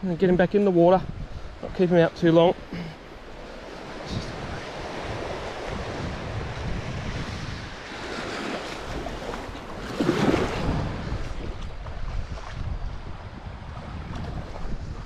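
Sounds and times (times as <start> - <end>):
wind buffeting microphone: 0.0 - 15.0
small surf washing up beach: 1.7 - 15.0.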